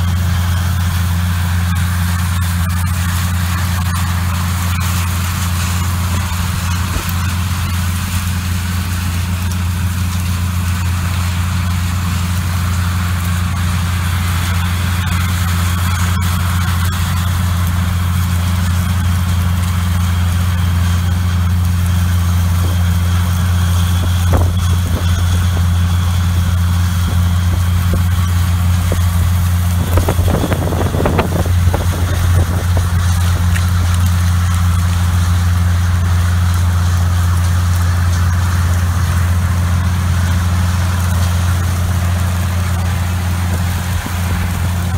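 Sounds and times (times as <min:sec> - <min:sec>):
tractor diesel engine droning: 0:00.0 - 0:44.9.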